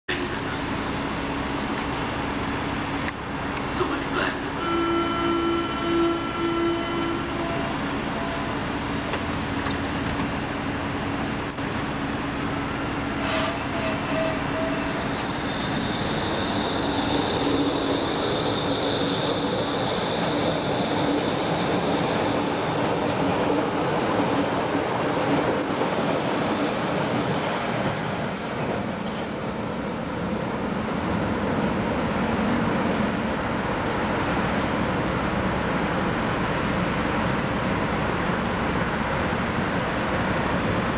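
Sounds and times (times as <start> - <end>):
electric train high whine: 0.1 - 40.9
train wheels on rails: 0.1 - 40.9.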